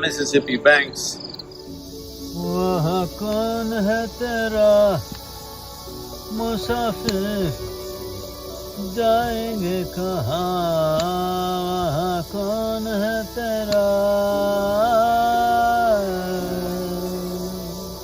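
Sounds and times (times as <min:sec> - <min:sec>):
solo voice singing chant-like melody: 0:02.2 - 0:18.0.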